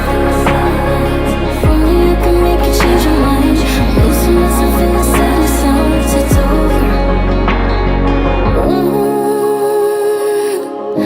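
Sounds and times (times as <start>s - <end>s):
electronic pop house music: 0.0s - 11.0s.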